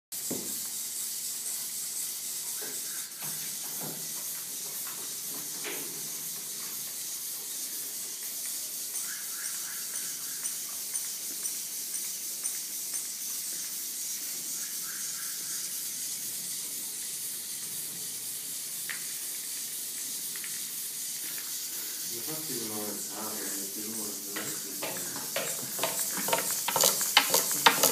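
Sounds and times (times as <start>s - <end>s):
high-pitched hiss: 0.2s - 27.9s.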